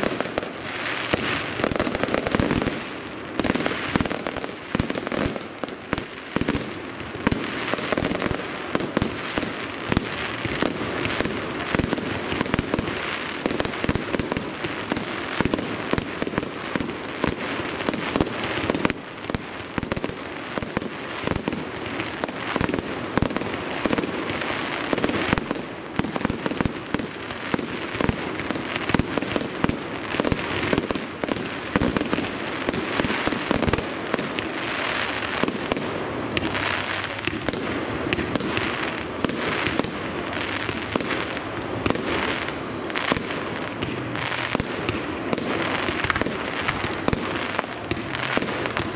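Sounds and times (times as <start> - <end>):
fireworks bursting: 0.0 - 48.9.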